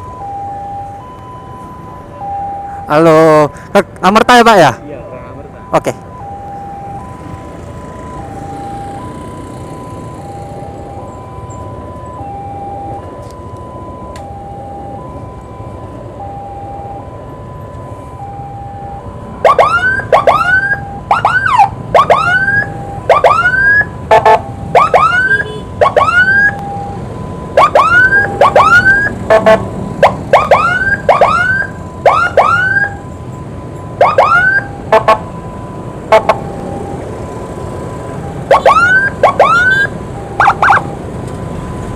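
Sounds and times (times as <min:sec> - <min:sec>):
road traffic rumble: 0:00.0 - 0:41.9
siren whoops: 0:00.0 - 0:41.9
two-tone siren wail: 0:00.0 - 0:41.9.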